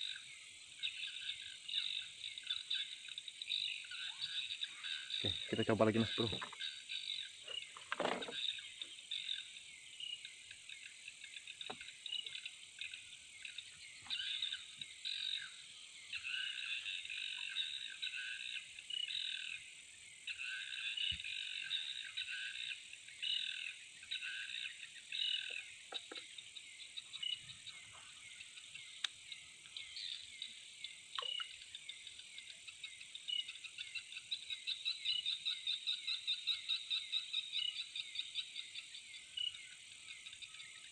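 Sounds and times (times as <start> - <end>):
frogs calling: 0.0 - 40.9
insect trill: 0.0 - 40.9.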